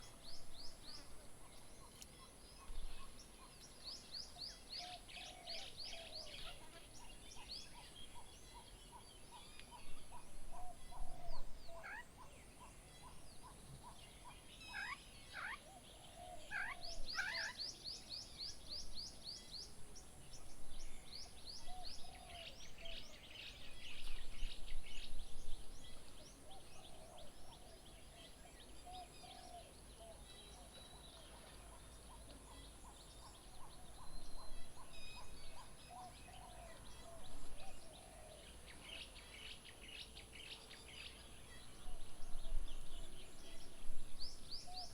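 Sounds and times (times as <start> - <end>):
birds calling: 0.0 - 18.6, 25.9 - 44.9.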